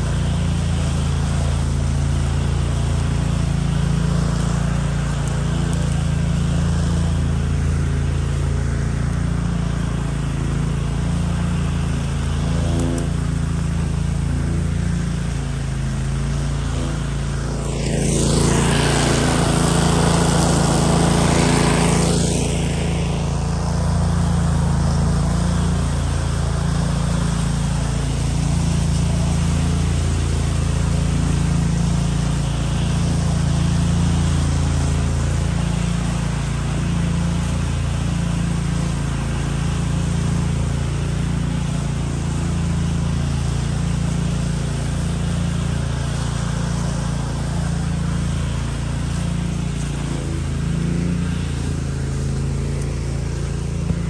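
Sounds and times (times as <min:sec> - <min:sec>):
mower engine running: 0:00.0 - 0:54.0.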